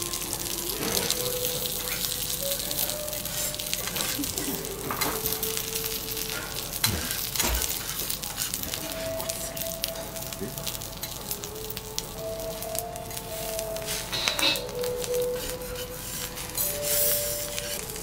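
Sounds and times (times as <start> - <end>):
metal utensils clinking on griddle: 0.0 - 11.4, 13.4 - 18.0
liquid hissing into steam: 0.0 - 18.0
vegetables sizzling on griddle: 0.0 - 18.0.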